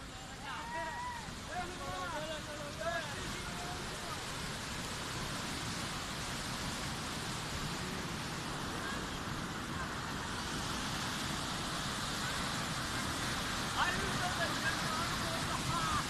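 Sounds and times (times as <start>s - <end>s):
rushing flood water: 0.0s - 16.0s.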